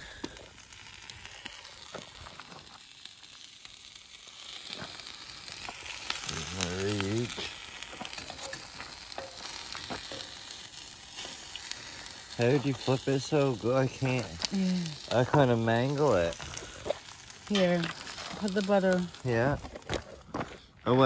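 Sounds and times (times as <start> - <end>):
food sizzling in a pan: 0.0 - 20.1.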